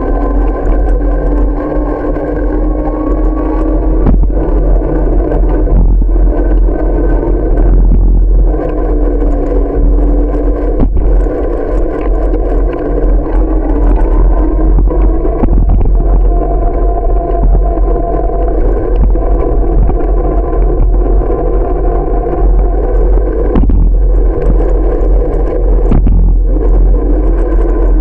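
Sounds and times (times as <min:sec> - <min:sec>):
steady hum: 0:00.0 - 0:28.0
wind rushing over microphone: 0:00.0 - 0:28.0.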